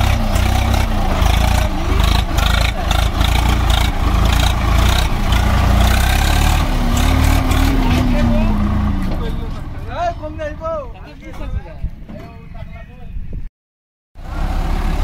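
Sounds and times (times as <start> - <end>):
heavy diesel engine under load: 0.0 - 11.4, 14.2 - 15.0.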